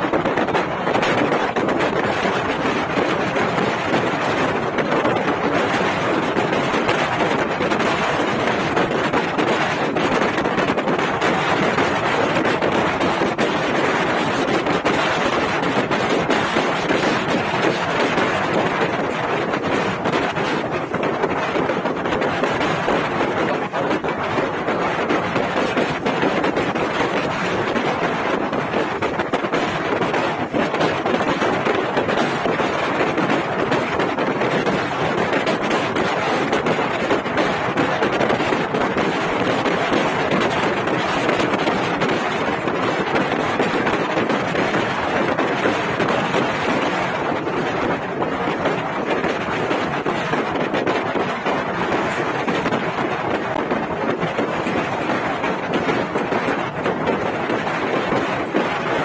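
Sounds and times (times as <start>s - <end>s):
rapid crackles: 0.0s - 59.0s
wind buffeting microphone: 0.0s - 59.0s.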